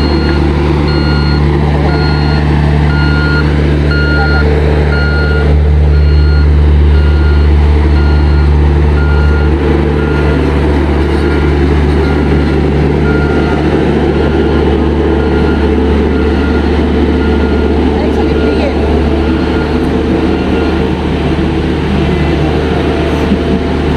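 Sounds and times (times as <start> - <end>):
reversing alarm beeping: 0.0 - 21.6
heavy machine engine running: 0.0 - 23.9.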